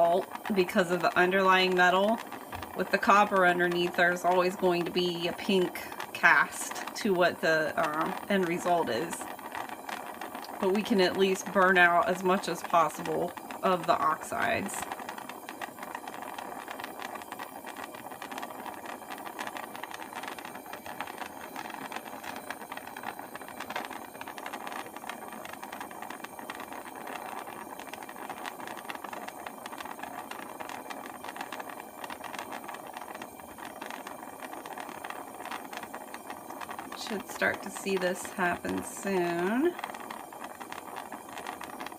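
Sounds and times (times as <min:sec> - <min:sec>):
gas torch flame hissing: 0:00.0 - 0:41.9.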